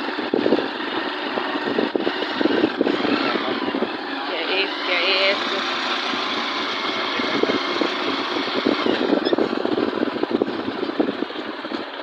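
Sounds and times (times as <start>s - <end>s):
vehicle engine pulsing: 0.0s - 12.0s
wind and road noise: 0.0s - 12.0s.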